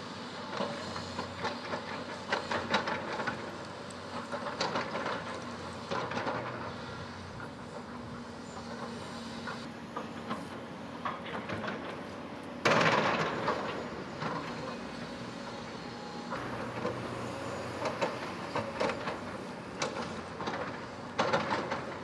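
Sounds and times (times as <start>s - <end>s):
excavator engine running: 0.1s - 22.0s.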